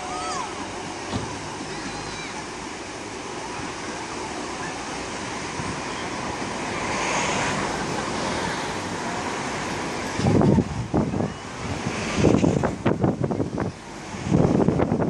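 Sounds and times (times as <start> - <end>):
surf breaking on beach: 0.0 - 15.0
wind: 0.0 - 15.0.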